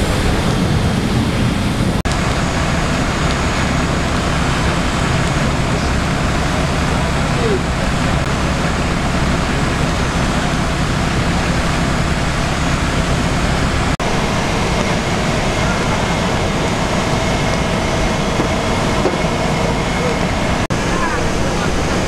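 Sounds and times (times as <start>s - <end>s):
heavy rain hissing: 0.0s - 22.0s
road vehicles passing: 0.0s - 22.0s.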